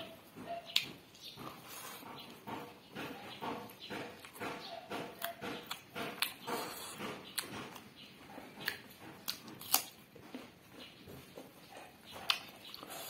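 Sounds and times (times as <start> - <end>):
chewing and mouth smacking: 0.4 - 13.0.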